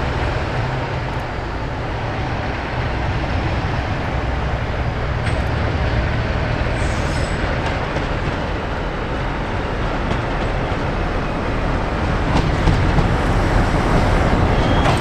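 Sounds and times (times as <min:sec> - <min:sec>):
diesel locomotive engine running: 0:00.0 - 0:15.0
train wheels on rails: 0:00.0 - 0:15.0.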